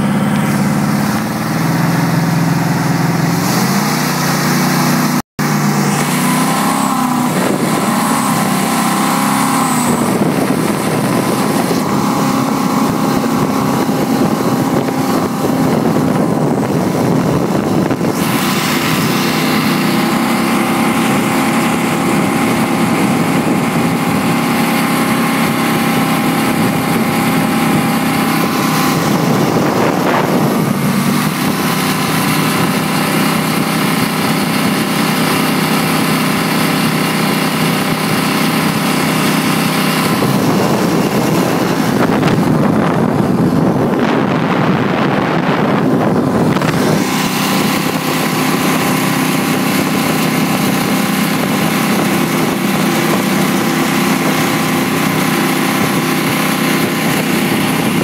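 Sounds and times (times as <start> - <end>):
jet boat engine running: 0.0 - 58.0
rushing water spray: 0.0 - 58.0
wind: 0.0 - 58.0.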